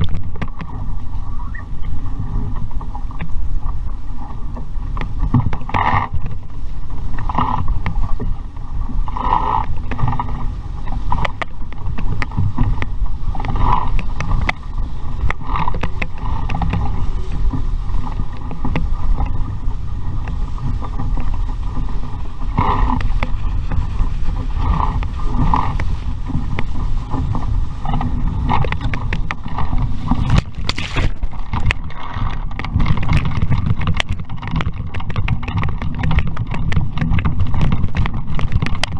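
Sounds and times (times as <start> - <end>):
water rushing and splashing: 0.0 - 38.9
wind buffeting microphone: 0.0 - 38.9.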